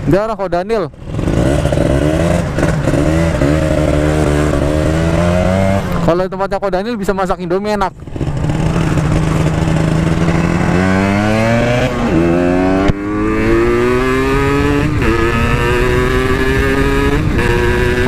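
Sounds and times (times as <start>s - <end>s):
two-stroke motorcycle engine revving: 0.9s - 6.2s, 8.0s - 18.0s.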